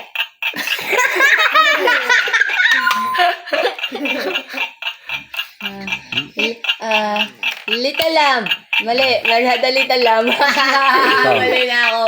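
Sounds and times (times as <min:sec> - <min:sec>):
rapid even ticking: 0:00.0 - 0:12.0
people laughing: 0:00.5 - 0:07.4, 0:08.9 - 0:12.0.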